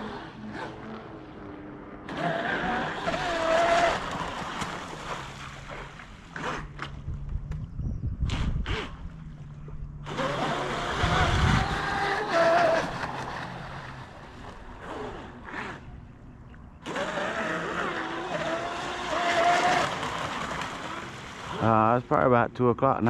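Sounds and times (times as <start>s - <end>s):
model boat electric motor whine: 0.0s - 6.8s, 9.9s - 21.6s.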